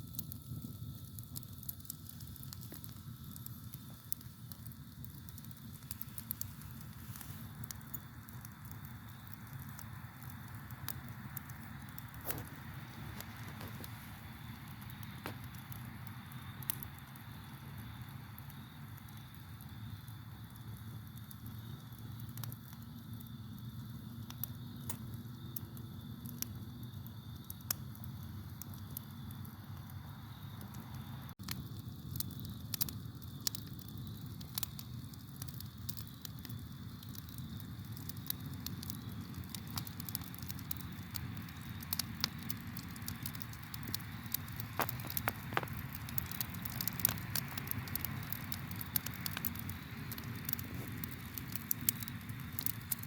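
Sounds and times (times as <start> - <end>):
campfire crackling and popping: 0.0 - 53.0
crickets chirring: 0.4 - 53.0.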